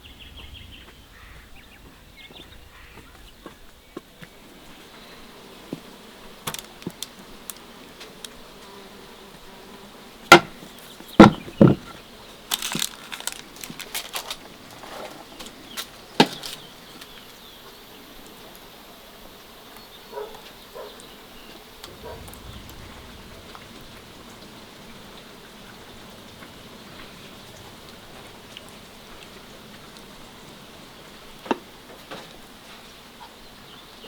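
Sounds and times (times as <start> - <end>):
faint steady background noise: 0.0 - 34.0.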